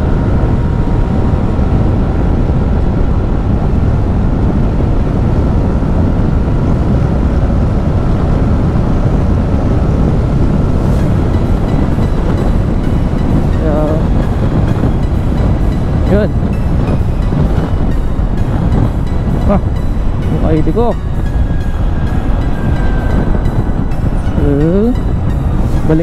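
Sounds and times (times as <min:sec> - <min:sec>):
loud wind noise: 0:00.0 - 0:26.0.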